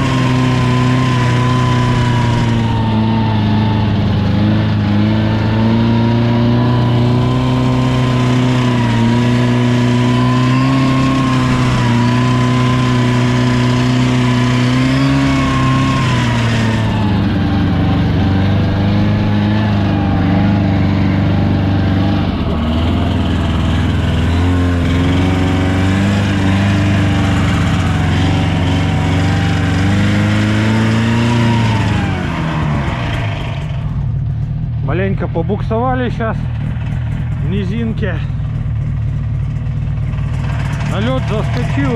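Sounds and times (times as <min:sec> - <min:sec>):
car engine revving under load: 0:00.0 - 0:41.9.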